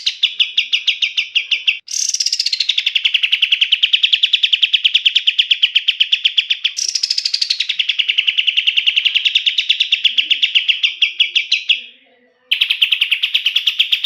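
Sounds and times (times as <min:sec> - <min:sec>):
songbird rapid trill: 0:00.0 - 0:11.8, 0:12.5 - 0:14.0.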